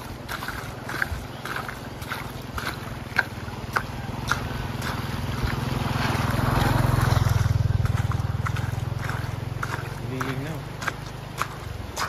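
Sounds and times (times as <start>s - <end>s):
engine low pulsing hum: 0.0s - 12.0s.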